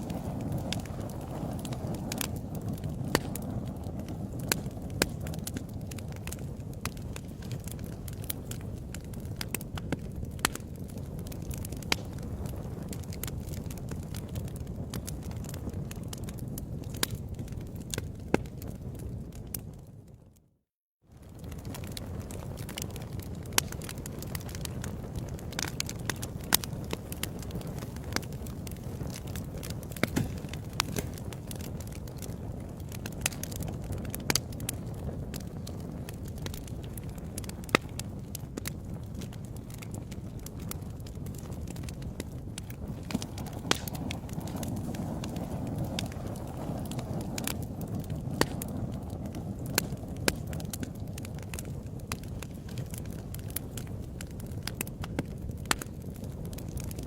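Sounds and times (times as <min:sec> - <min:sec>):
wood fire crackling and popping: 0:00.0 - 0:20.5, 0:21.1 - 0:57.0.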